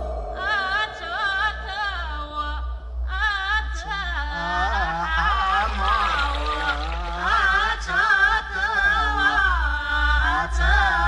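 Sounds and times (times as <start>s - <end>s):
high wavering sung melody: 0.0s - 11.0s
low musical accompaniment: 0.0s - 11.0s.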